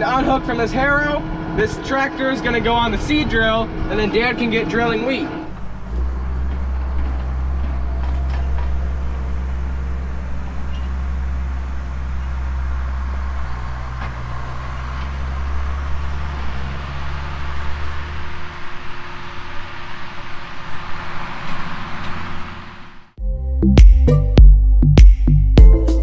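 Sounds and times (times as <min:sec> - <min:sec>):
tractor engine droning: 0:00.0 - 0:23.2.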